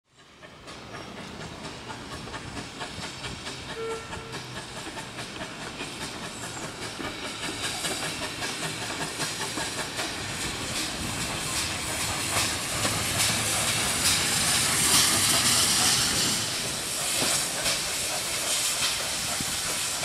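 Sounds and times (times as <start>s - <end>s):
steam locomotive exhaust beats: 0.1s - 20.0s
steam hissing: 0.2s - 20.0s.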